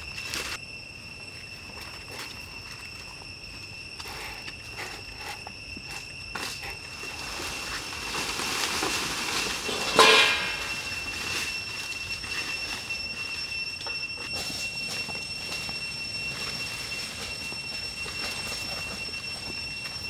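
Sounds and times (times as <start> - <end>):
high-pitched insect drone: 0.0 - 20.0
short loud insect call: 0.0 - 20.0.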